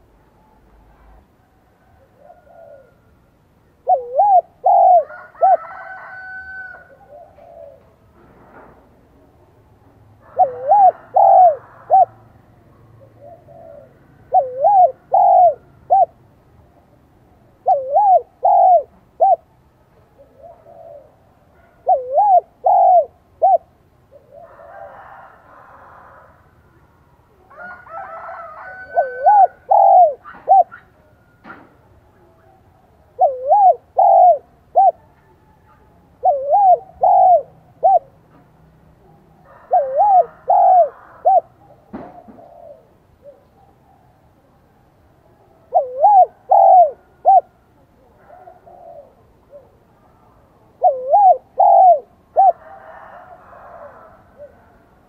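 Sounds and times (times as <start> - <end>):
dove cooing: 0.0 - 8.7, 10.2 - 16.2, 17.5 - 26.4, 27.5 - 31.4, 32.2 - 38.4, 39.0 - 44.6, 45.4 - 54.9.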